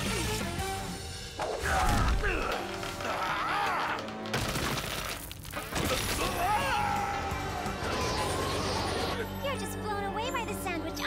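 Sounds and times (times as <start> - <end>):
cartoon background music: 0.0 - 4.6, 5.6 - 11.0.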